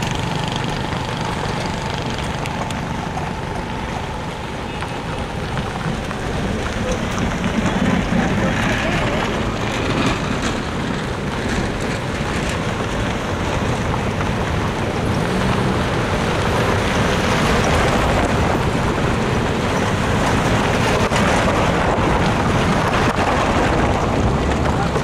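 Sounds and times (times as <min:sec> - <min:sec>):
cars driving past on dirt road: 0:00.0 - 0:25.0
wind buffeting microphone: 0:00.0 - 0:25.0.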